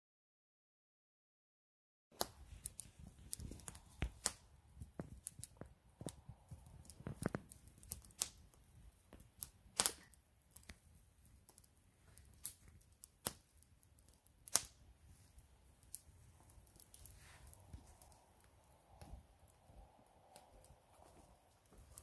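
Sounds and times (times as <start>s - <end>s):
sharp clicks and crackles: 2.2s - 22.0s.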